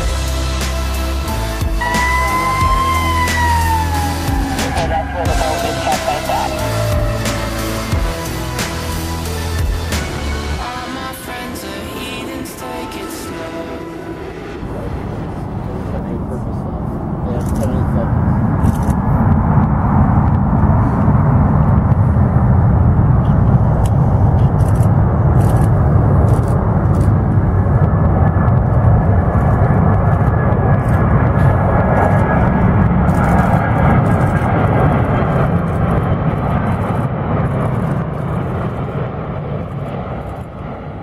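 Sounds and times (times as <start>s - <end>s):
jet airliner roar: 0.0s - 41.0s.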